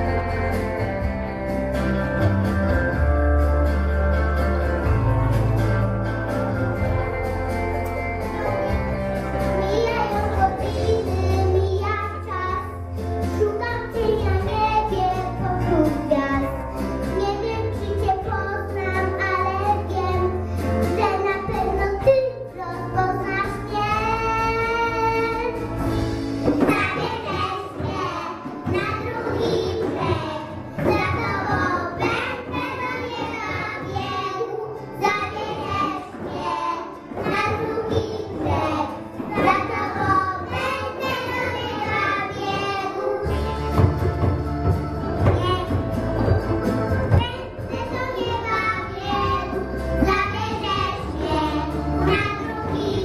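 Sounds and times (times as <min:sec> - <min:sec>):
musical backing with deep bass: 0:00.0 - 0:53.0
children singing: 0:08.1 - 0:53.0.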